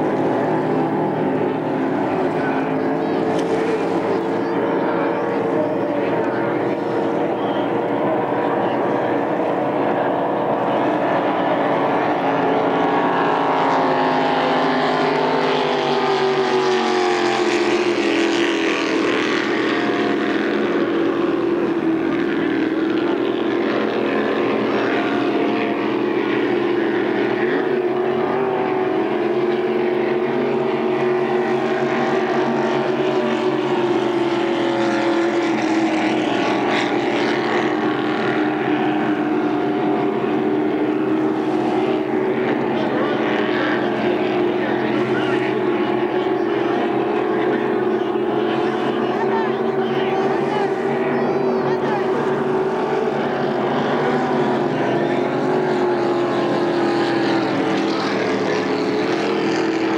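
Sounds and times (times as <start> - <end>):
racing boat engines droning: 0.0 - 59.9.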